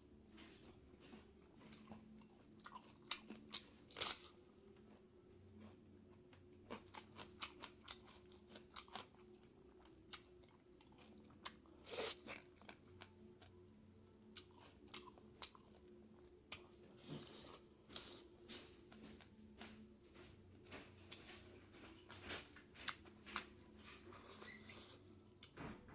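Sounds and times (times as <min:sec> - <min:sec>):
person chewing food: 0:00.4 - 0:13.6, 0:14.3 - 0:25.5.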